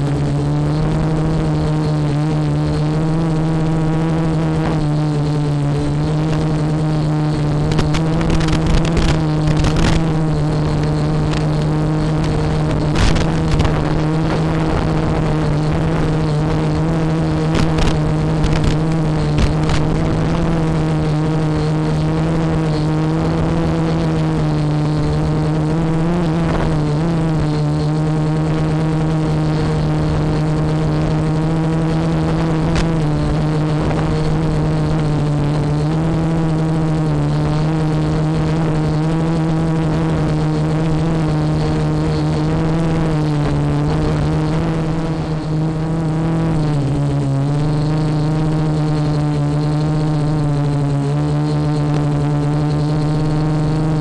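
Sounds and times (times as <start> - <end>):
crackles: 0.0 - 54.0
drone motors buzzing: 0.0 - 54.0.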